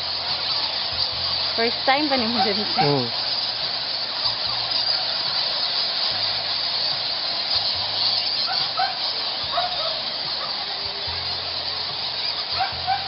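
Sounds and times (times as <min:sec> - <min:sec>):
bat squeaks: 0:00.0 - 0:13.0
fruit bats chattering: 0:00.0 - 0:13.0.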